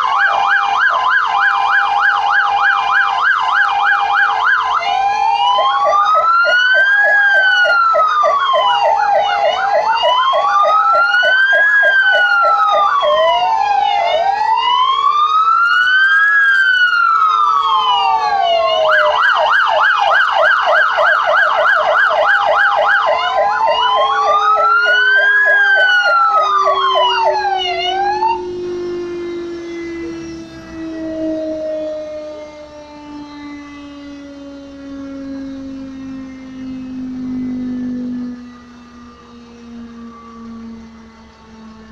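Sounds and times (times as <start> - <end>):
fire engine sirens wailing: 0.0 - 41.9
low siren tone winding down: 0.0 - 41.9.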